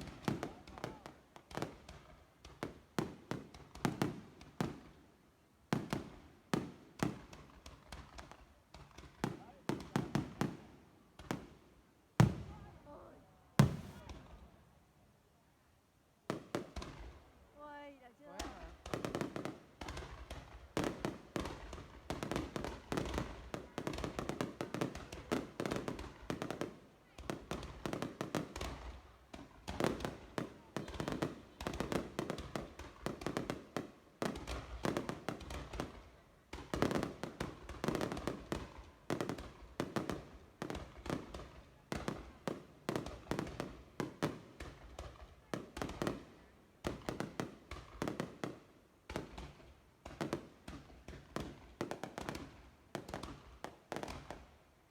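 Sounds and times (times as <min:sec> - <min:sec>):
fireworks bangs and crackles: 0:00.0 - 0:05.0, 0:05.7 - 0:14.6, 0:16.3 - 0:54.6.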